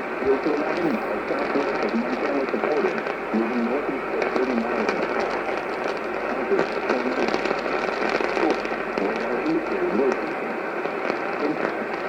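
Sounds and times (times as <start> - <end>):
faint broadcast voice: 0.0 - 12.0
radio static hiss: 0.0 - 12.0.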